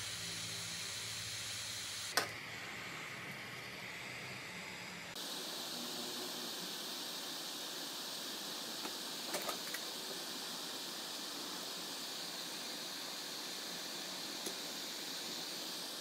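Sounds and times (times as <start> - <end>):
blower fan air hissing: 0.0 - 16.0.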